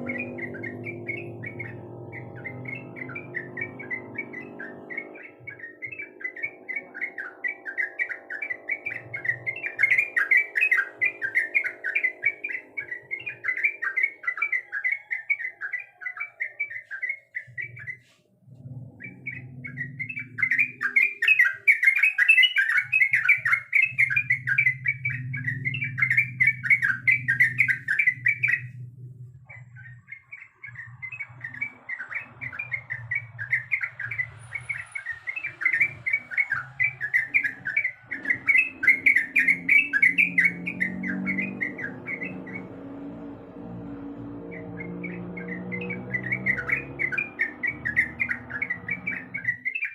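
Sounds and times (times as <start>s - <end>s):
bulbul singing rapid chattering notes: 0.0s - 18.0s, 18.9s - 49.9s.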